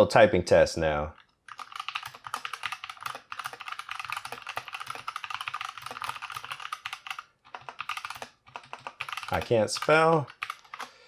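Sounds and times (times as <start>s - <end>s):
mechanical keyboard typing: 1.2s - 10.9s.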